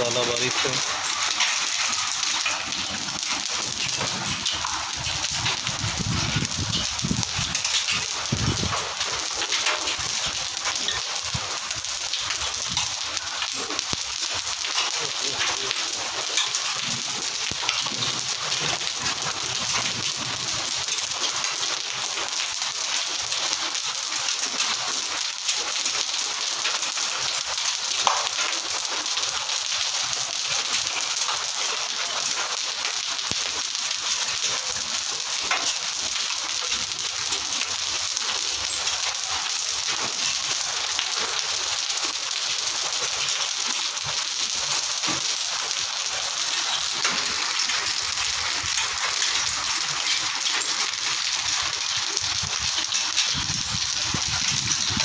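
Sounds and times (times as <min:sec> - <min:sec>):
heavy rain and hail pelting roof: 0:00.0 - 0:55.0.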